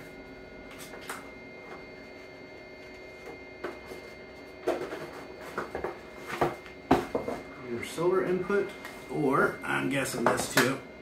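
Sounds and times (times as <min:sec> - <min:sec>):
cooling fan whirring hum: 0:00.0 - 0:11.0.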